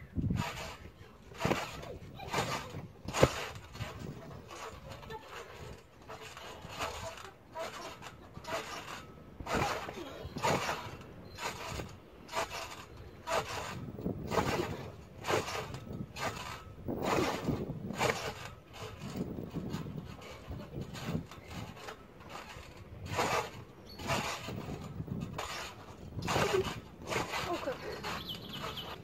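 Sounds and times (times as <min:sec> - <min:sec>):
trampoline springs creaking: 0:00.0 - 0:29.0.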